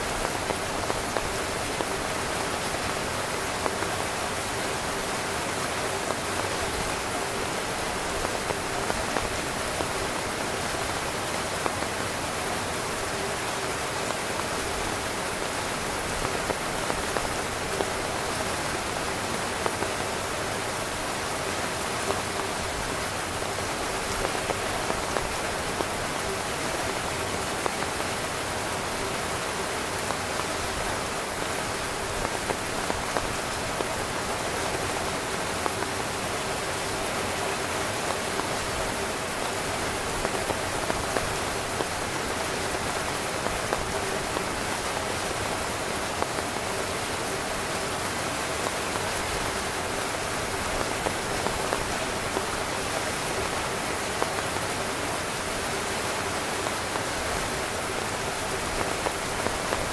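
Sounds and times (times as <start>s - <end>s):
heavy rain on tent fabric: 0.0s - 59.9s.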